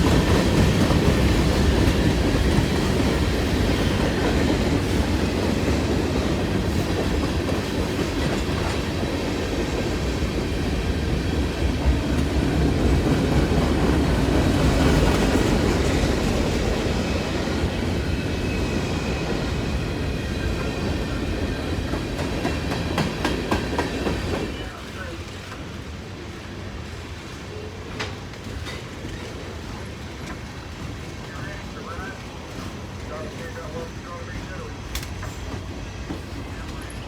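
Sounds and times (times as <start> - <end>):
freight train rumble: 0.0 - 37.0.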